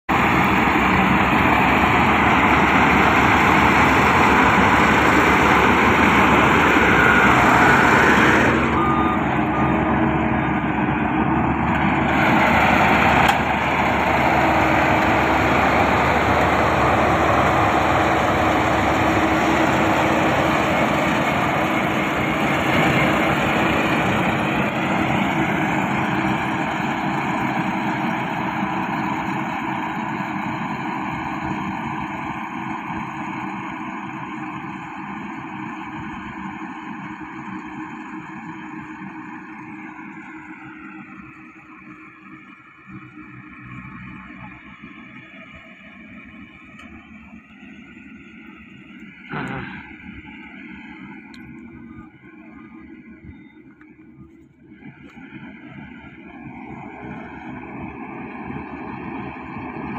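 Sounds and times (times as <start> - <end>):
combine harvester running: 0.1 - 59.9.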